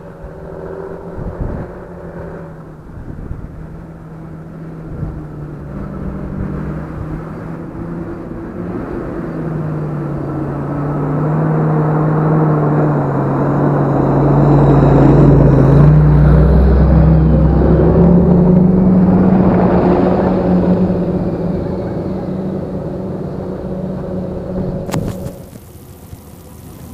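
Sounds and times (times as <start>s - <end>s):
tractor diesel engine passing: 0.0s - 26.9s.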